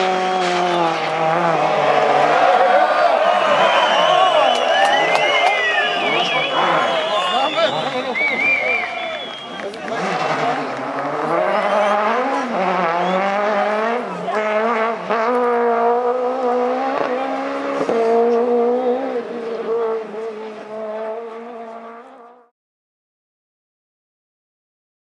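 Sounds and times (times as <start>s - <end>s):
rally car engine revving: 0.0s - 22.5s.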